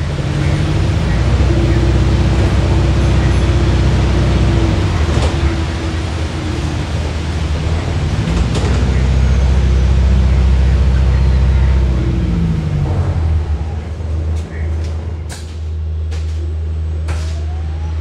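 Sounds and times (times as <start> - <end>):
bus drivetrain rumble: 0.0 - 18.0.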